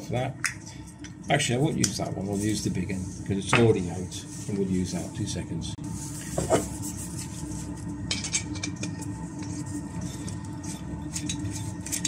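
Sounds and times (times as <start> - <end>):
space heater humming: 0.0 - 12.0.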